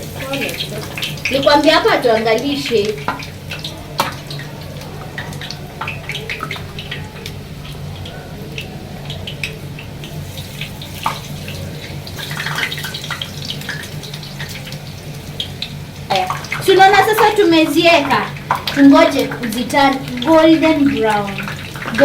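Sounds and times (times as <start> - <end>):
food deep-frying in oil: 0.0 - 22.0.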